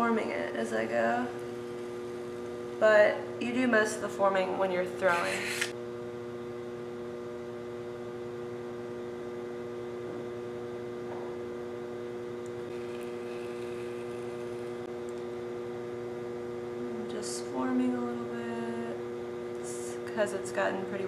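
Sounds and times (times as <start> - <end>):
pottery wheel motor humming: 0.0 - 21.0.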